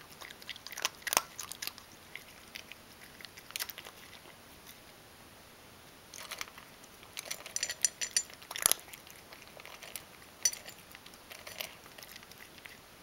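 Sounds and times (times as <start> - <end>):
cat crunching dry kibble: 0.0 - 4.9, 6.1 - 12.8.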